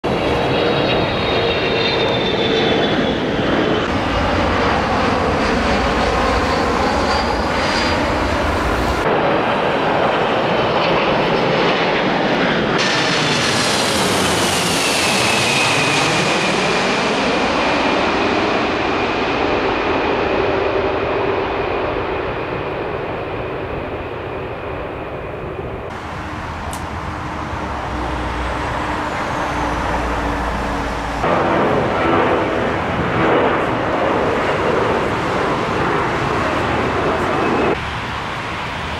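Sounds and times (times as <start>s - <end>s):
jet engines passing overhead: 0.0s - 38.9s.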